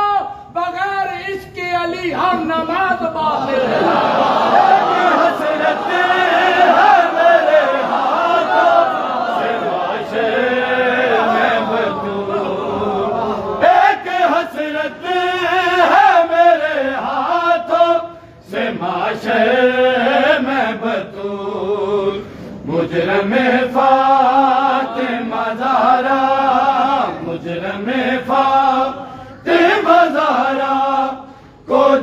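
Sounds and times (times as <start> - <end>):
men chanting together: 3.3 - 32.0.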